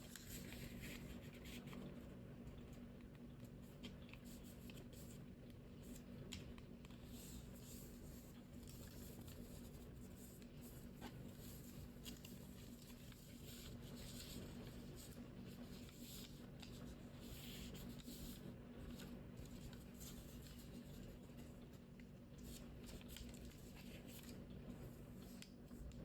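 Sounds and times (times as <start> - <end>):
paper being folded and creased: 0.0 - 5.2, 5.8 - 26.0
low steady hum: 0.0 - 26.0.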